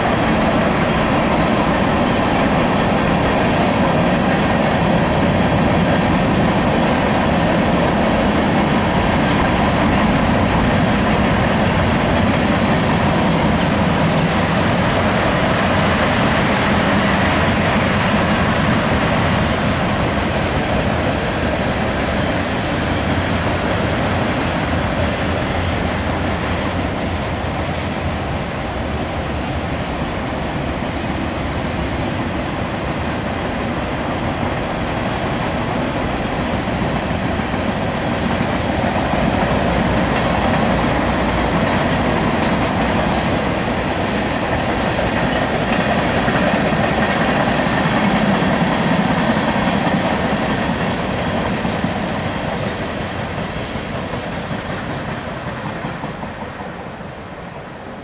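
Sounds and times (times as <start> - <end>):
steel wheels rolling on rail: 0.0 - 58.0.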